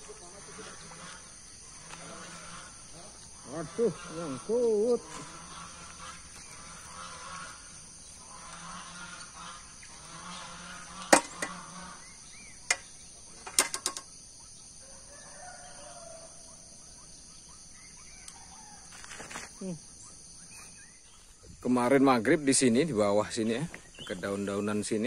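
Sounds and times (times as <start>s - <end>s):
faint chickens: 0.0s - 13.4s, 14.3s - 25.0s
high insect drone: 0.0s - 25.0s.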